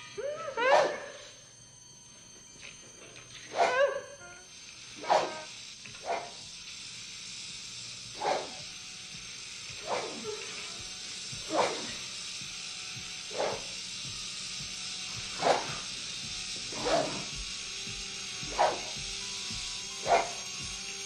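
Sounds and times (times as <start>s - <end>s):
gas hissing from valve: 0.0s - 21.0s.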